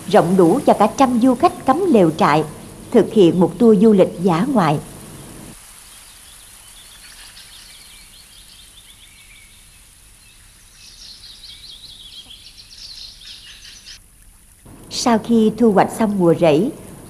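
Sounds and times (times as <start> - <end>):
small birds chirping: 0.0 - 14.0
faint steady hiss: 0.0 - 17.0.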